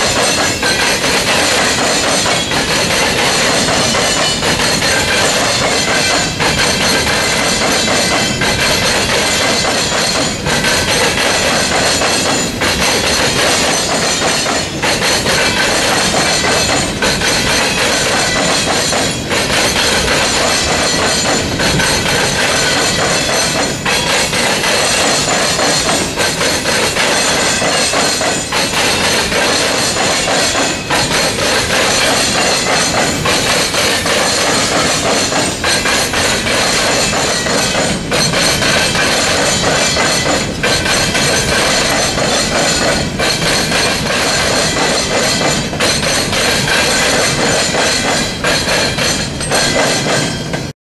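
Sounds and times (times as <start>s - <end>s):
train wheels clattering over crossing: 0.0s - 50.7s.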